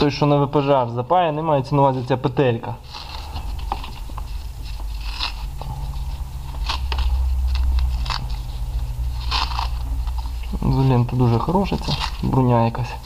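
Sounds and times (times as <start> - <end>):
steady low hum: 0.0 - 13.0
tape crackling and rustling: 1.8 - 13.0.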